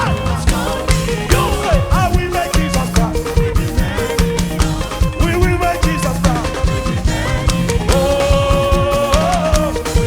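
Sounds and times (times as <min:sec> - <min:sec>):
upbeat dance music: 0:00.0 - 0:10.0.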